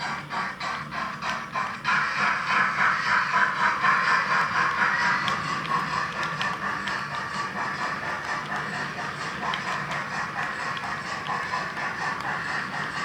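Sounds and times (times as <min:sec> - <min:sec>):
steam locomotive hiss: 0:00.0 - 0:09.3, 0:10.0 - 0:13.0.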